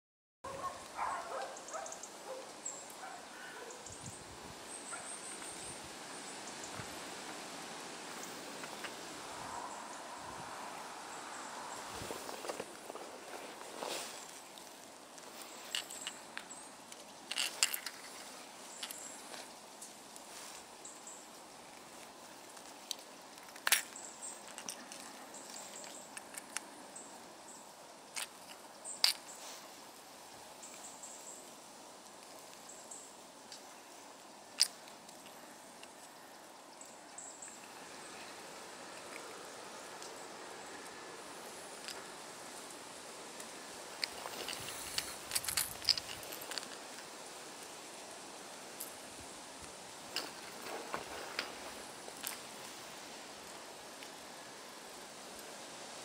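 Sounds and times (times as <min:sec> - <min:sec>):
steady hiss: 0:00.7 - 0:56.0
rustling: 0:10.8 - 0:56.0.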